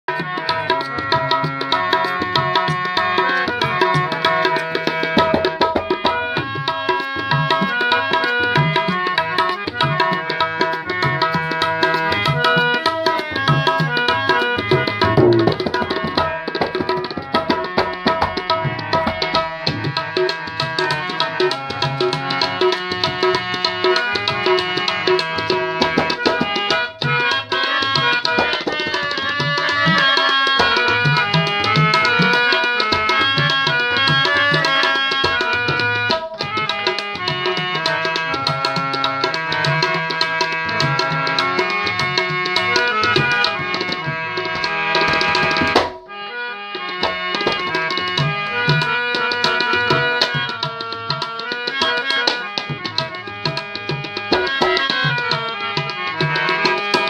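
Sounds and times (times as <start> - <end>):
harmonium melody: 0.0 - 57.0
tabla drumming: 0.0 - 57.0.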